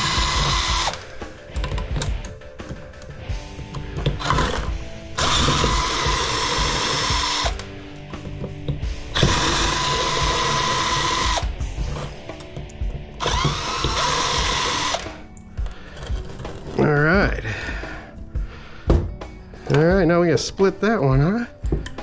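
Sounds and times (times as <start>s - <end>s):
power drill whining: 0.0s - 18.1s
background music: 0.0s - 22.0s.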